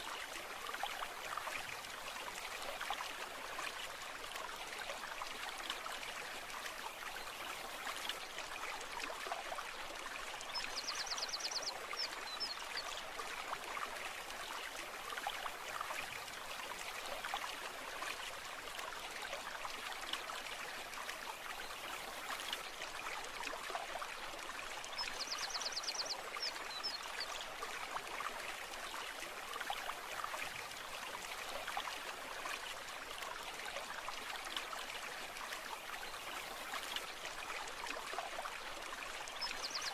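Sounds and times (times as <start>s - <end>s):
shallow running water: 0.0s - 39.9s.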